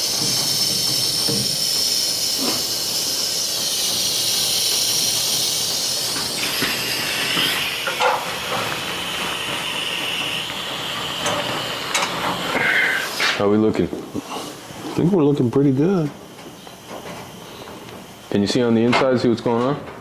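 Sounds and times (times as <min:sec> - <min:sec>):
air hissing: 0:00.0 - 0:19.6.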